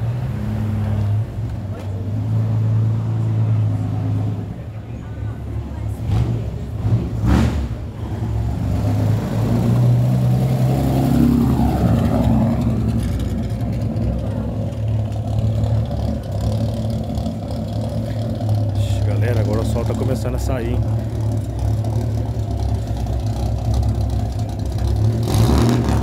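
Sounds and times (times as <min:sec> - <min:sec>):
car engine running: 0:03.2 - 0:26.0.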